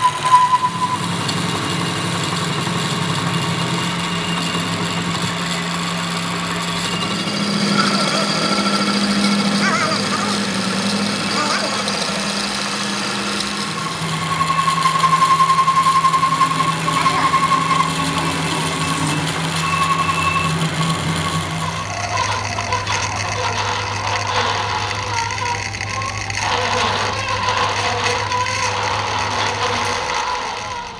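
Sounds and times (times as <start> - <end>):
lathe cutting tool squealing: 0.0 - 30.9
lathe humming: 0.0 - 30.9.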